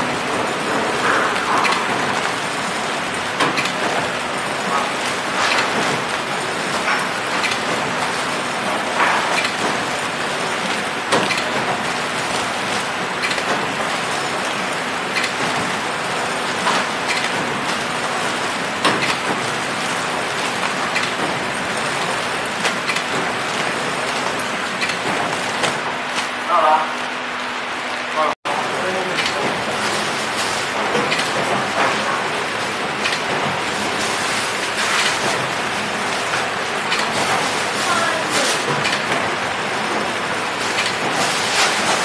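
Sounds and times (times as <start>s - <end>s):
wrapping machine whirring: 0.0s - 27.0s, 28.5s - 42.0s.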